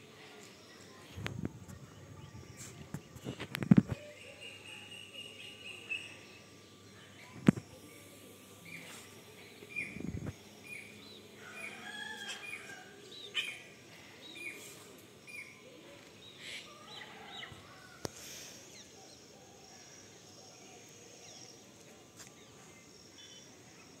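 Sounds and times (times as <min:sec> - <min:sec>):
birds chirping: 0:00.2 - 0:24.0.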